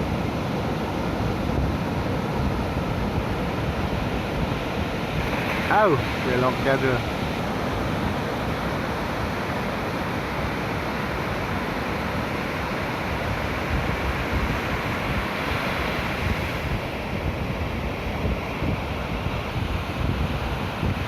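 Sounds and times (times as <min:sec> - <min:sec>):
ocean surf breaking on beach: 0:00.0 - 0:21.0
wind buffeting microphone: 0:00.0 - 0:21.0.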